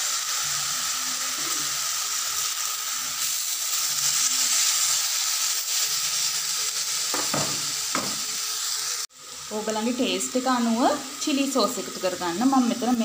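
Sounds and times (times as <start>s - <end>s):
onions sizzling in a wok: 0.0s - 13.0s.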